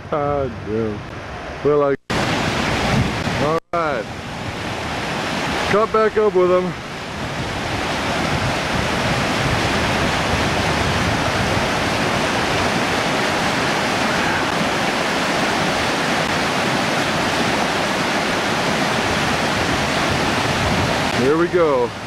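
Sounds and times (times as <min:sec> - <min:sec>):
water rushing over rocks: 0:02.1 - 0:22.0.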